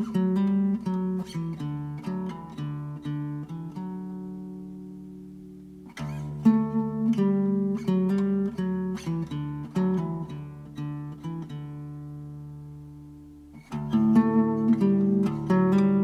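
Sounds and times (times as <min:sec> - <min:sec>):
picked acoustic guitar: 0:00.0 - 0:16.0.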